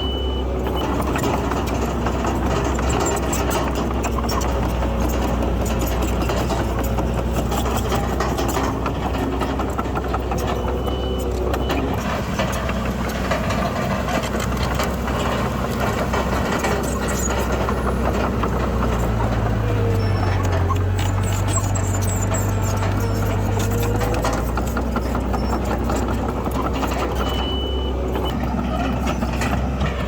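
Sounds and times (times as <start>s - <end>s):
heavy diesel machinery running: 0.0s - 30.0s
rattling and clanking: 0.3s - 30.0s.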